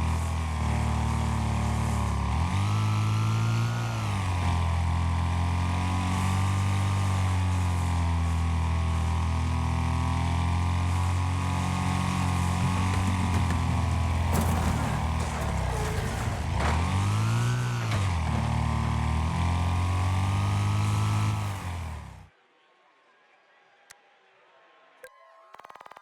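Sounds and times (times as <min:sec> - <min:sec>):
lawn mower engine running hard: 0:00.0 - 0:22.1.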